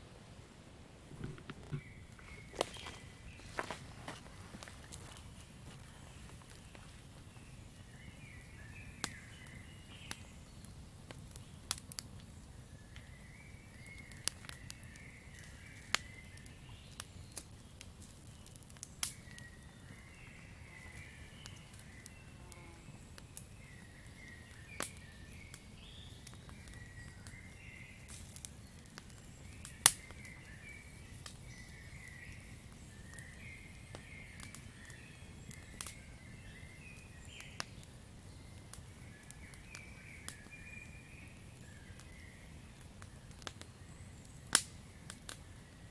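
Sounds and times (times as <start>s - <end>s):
campfire crackling and popping: 0.6s - 45.9s.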